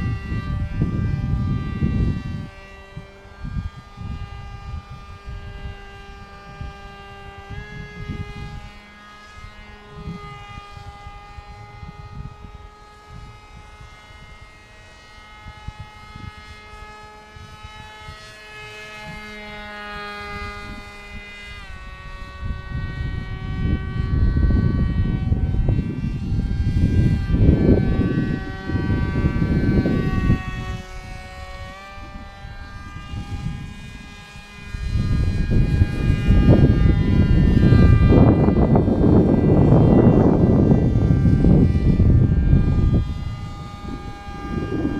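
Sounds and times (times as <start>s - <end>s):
model plane motor whining: 0.0s - 44.9s
wind rumble on microphone: 0.0s - 44.9s.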